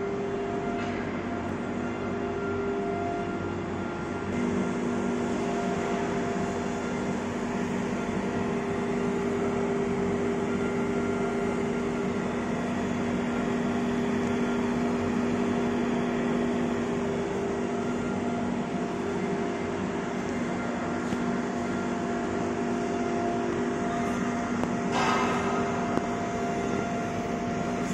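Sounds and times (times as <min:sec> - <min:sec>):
machine hum and fan whir: 0:00.0 - 0:27.9.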